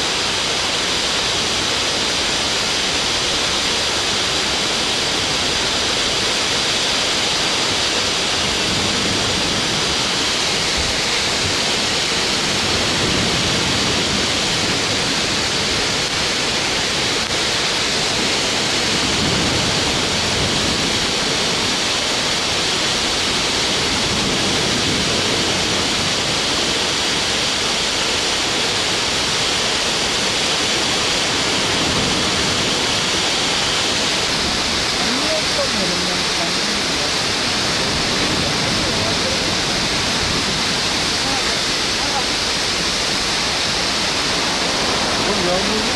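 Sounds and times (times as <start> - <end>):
choppy sea rushing: 0.0 - 45.9
wind: 0.0 - 45.9.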